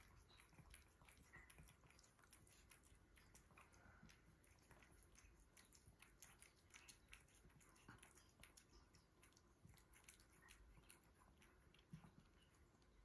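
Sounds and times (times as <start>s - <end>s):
kitten chewing: 0.0s - 13.0s.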